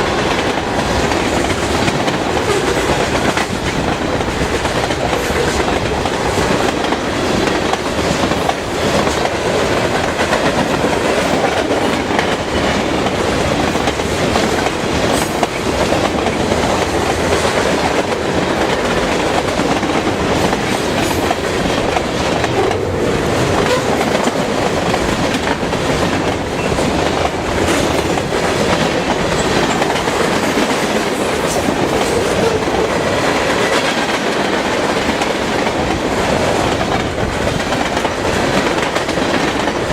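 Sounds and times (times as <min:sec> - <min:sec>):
freight train wheels clicking: 0:00.0 - 0:39.9.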